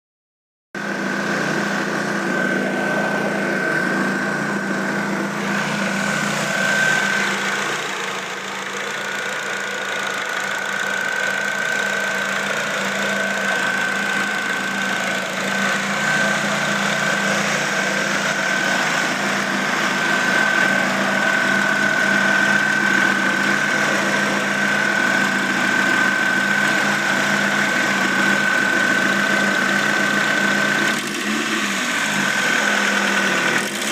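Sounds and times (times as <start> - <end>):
vehicle engine idling: 0.8 - 33.9.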